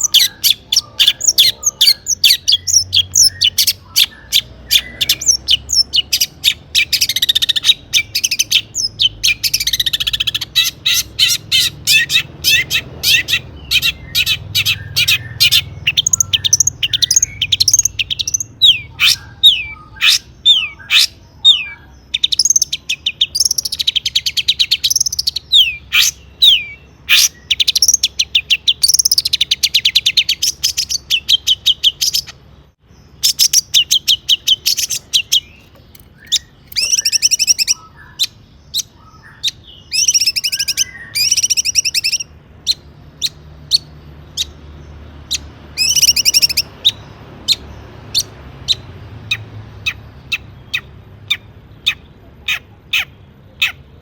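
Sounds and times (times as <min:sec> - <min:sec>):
shrike singing: 0:00.0 - 0:54.0.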